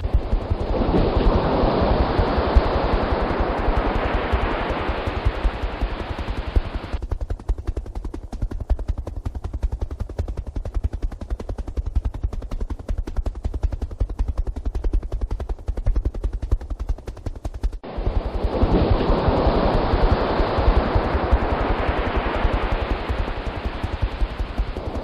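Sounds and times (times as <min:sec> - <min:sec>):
helicopter rotor chopping: 0:00.0 - 0:25.0.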